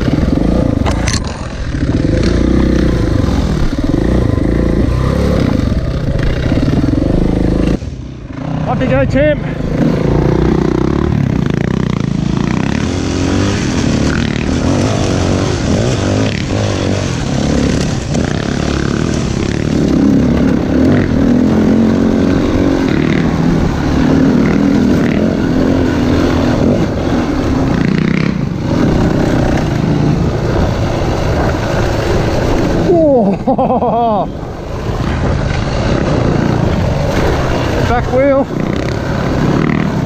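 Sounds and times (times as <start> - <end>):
bike clattering and scraping: 0.0 - 8.9, 9.7 - 40.0
dirt bike engine revving: 0.0 - 40.0.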